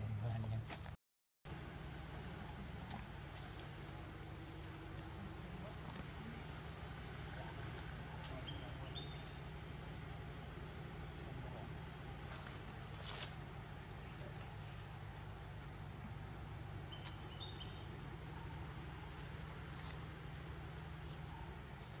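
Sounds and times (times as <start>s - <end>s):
insects buzzing: 0.0s - 0.9s, 1.5s - 22.0s.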